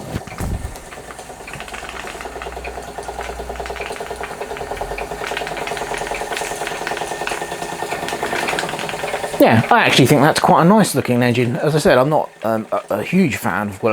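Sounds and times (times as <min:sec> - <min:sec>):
steam engine running: 0:00.0 - 0:13.9.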